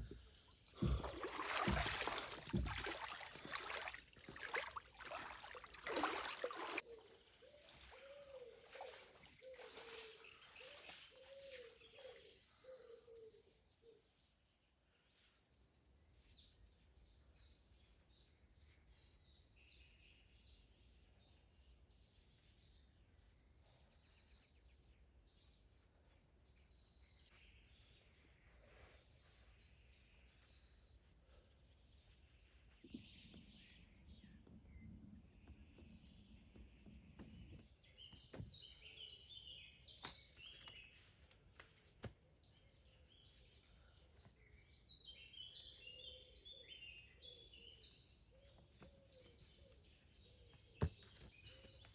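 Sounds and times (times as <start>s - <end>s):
faint birdsong chirps: 0.0s - 51.9s.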